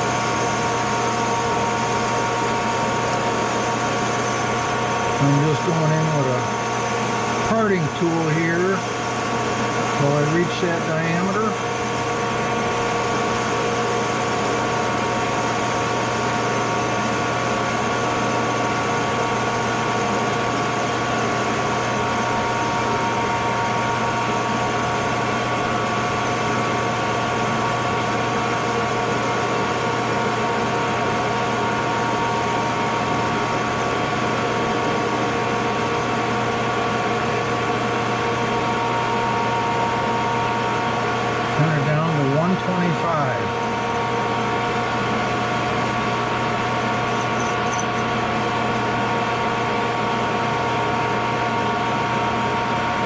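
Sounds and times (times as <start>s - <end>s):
metal lathe humming: 0.0s - 53.0s.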